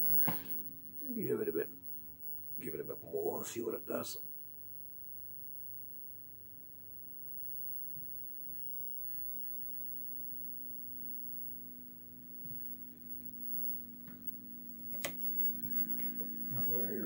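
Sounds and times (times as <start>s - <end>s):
television mains hum: 0.0s - 17.0s.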